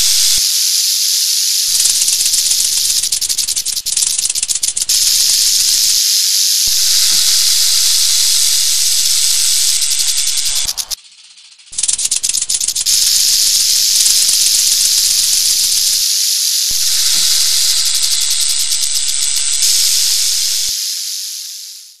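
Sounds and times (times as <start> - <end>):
rattlesnake rattling: 0.0 - 22.0.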